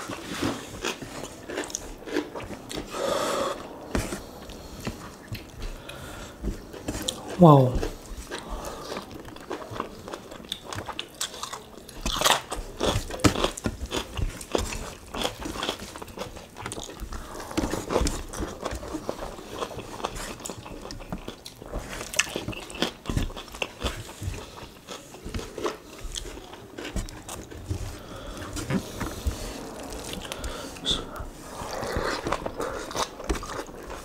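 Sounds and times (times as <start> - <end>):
people chewing and smacking: 0.0 - 34.0.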